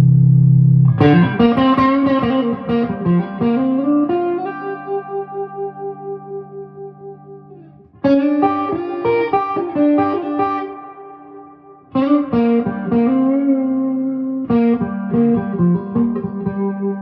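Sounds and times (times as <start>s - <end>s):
electric guitar with spring reverb: 0.0s - 17.0s.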